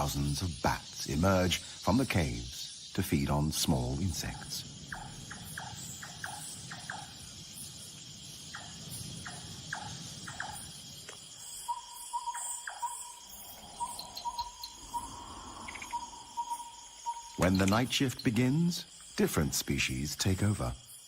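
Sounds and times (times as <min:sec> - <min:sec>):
crickets and insects chirring: 0:00.0 - 0:21.0.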